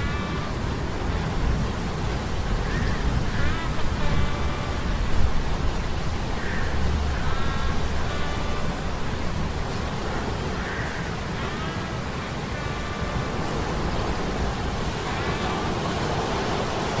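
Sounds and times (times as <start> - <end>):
rain-like hiss: 0.0 - 17.0
sea storm rumble: 0.0 - 17.0.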